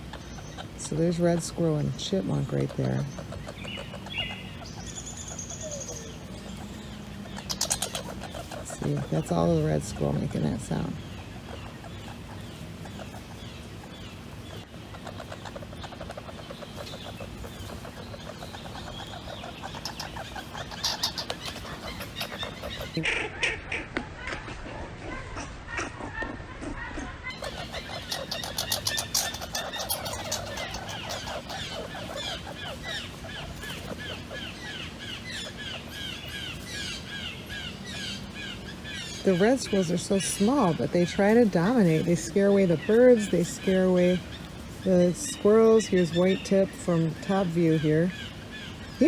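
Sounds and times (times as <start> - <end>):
squirrel chattering: 0.0 - 49.0.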